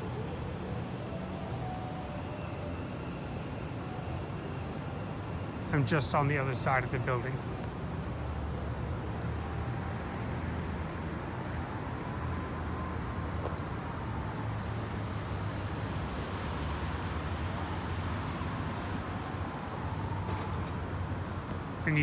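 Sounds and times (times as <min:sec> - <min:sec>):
distant city traffic rumble: 0:00.0 - 0:22.0.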